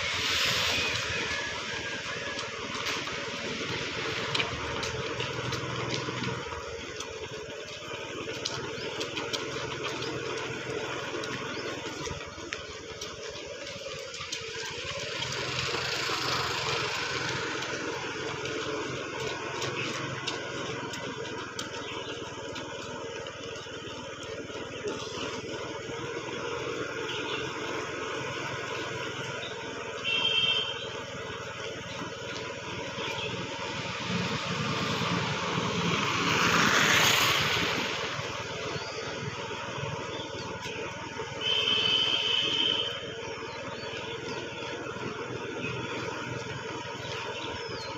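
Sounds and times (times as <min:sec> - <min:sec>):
running footsteps on road: 0:00.0 - 0:47.9
vehicle engine humming: 0:00.0 - 0:47.9.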